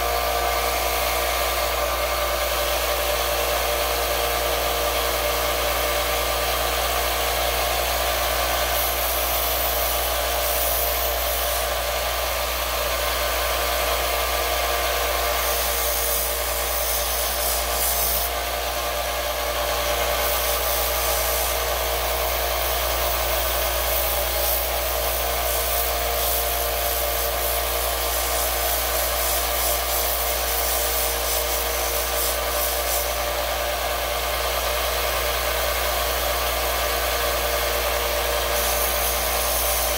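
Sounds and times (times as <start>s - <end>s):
belt sander grinding wood: 0.0s - 39.9s.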